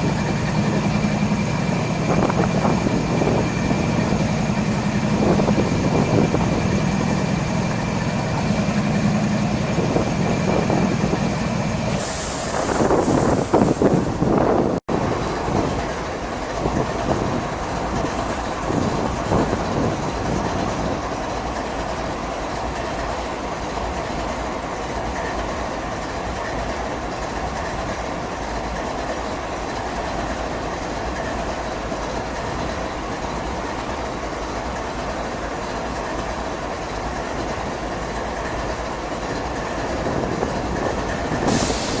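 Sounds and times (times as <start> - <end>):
train wheels rumbling on rails: 0.0 - 42.0
wheels clickety-clack: 0.0 - 42.0.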